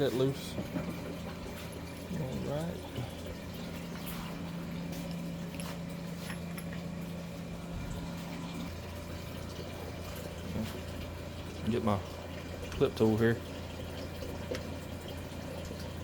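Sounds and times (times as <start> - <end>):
liquid trickling into a bucket: 0.0 - 16.0
steady low hum: 0.0 - 16.0.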